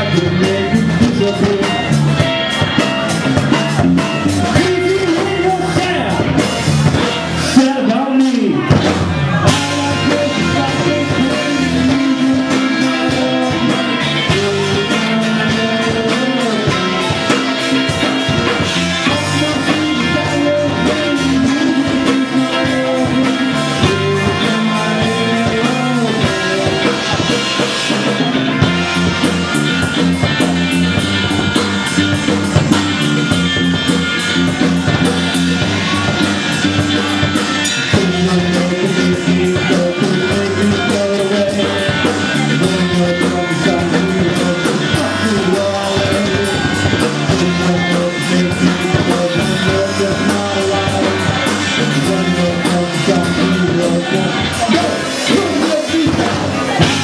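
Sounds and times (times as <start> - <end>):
rock music with singing: 0.0 - 57.0.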